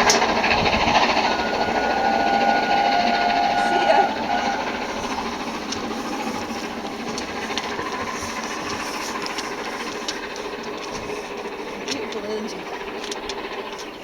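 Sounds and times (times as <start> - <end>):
sharp rail clicks: 0.0 - 14.0
train wheels rushing on track: 0.0 - 14.0.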